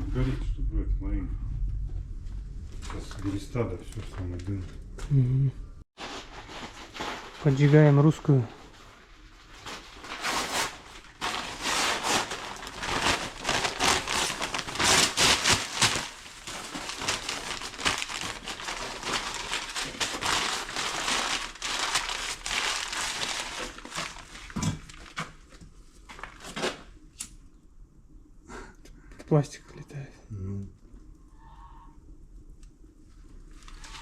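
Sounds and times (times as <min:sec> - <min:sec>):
fire crackling in stove: 0:00.0 - 0:27.6.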